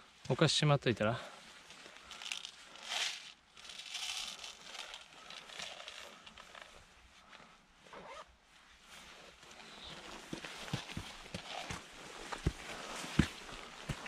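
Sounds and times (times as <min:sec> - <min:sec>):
backpack rustling: 0:01.8 - 0:08.3, 0:09.2 - 0:14.0.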